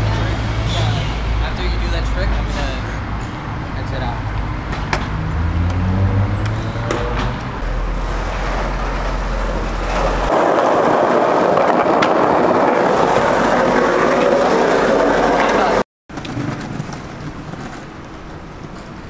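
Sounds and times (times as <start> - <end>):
skateboard wheels rolling on concrete: 0.0 - 19.0.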